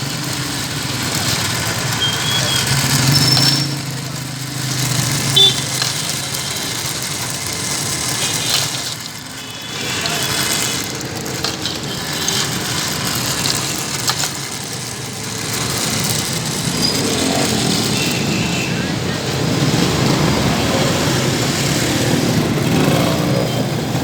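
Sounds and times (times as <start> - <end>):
traffic hum: 0.0 - 24.0
vehicles passing: 0.0 - 24.0.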